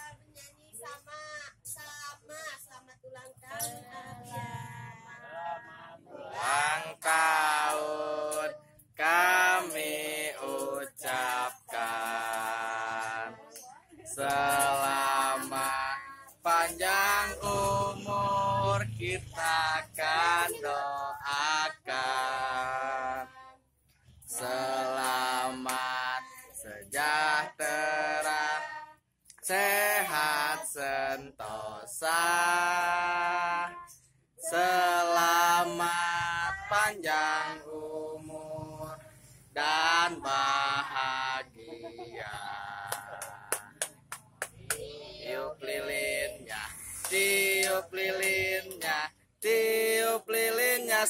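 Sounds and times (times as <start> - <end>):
voices singing birthday song: 0.0 - 51.0.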